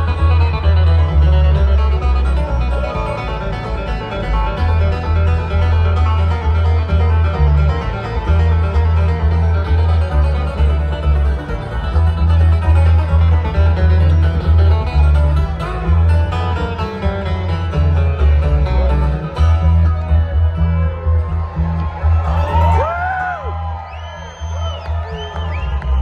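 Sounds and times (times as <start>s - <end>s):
loud pulsing bass: 0.0s - 22.9s
picked string instrument lines: 0.0s - 26.0s.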